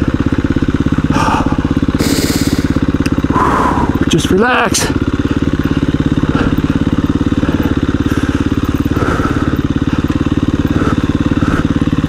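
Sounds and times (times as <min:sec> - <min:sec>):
motorcycle engine running: 0:00.0 - 0:12.0
rider breathing in helmet: 0:01.0 - 0:04.1, 0:05.1 - 0:12.0.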